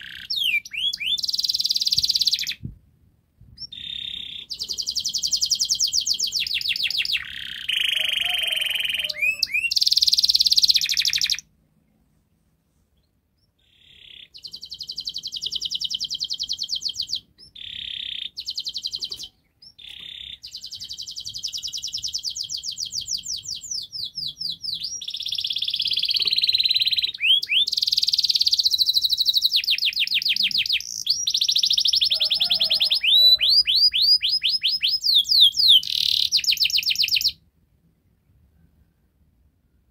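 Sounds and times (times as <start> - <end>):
canary singing trills: 0.0 - 2.7, 3.6 - 11.5, 13.4 - 37.4.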